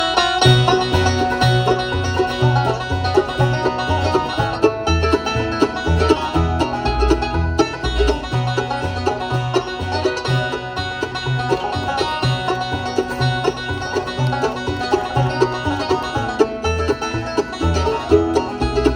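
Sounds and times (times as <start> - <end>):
fast picked banjo: 0.0 - 18.9
guitar: 0.0 - 18.9
bass line: 0.4 - 18.9.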